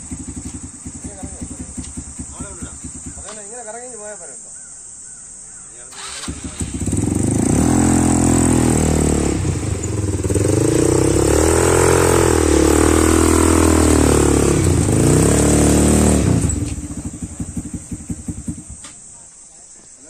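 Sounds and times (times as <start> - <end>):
quad bike engine revving: 0.0 - 3.4, 5.9 - 18.9.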